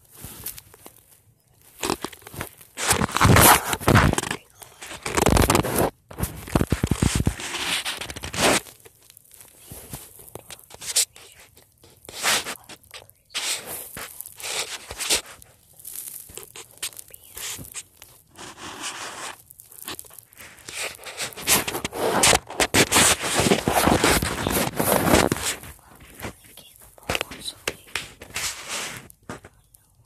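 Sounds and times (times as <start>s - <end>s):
fabric rustling on microphone: 0.0s - 30.0s.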